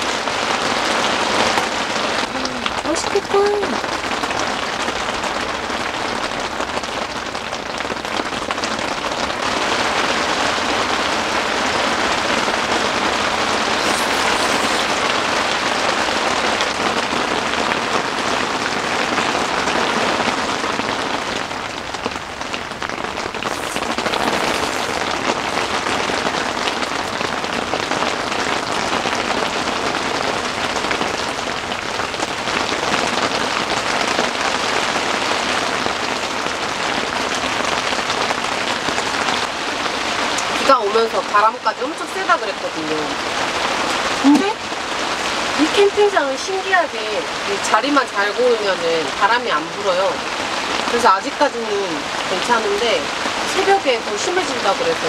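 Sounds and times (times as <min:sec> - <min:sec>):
heavy rain on tent fabric: 0:00.0 - 0:55.0.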